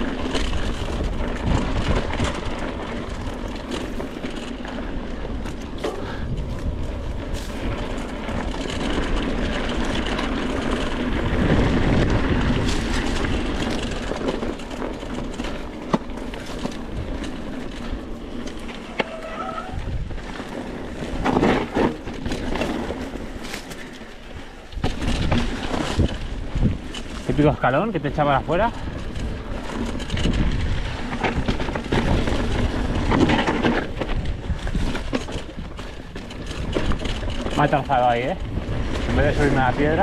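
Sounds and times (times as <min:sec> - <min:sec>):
bike knocking and rattling: 0:00.0 - 0:40.0
bike tyres rushing over dirt: 0:00.0 - 0:40.0.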